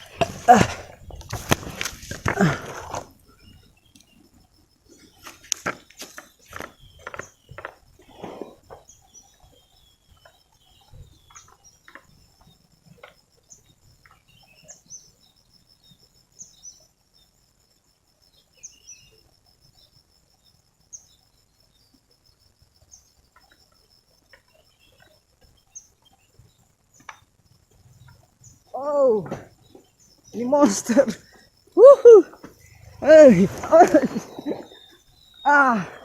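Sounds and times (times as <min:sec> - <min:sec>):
bird chirp: 0:00.0 - 0:17.4, 0:18.2 - 0:22.1, 0:22.8 - 0:36.0.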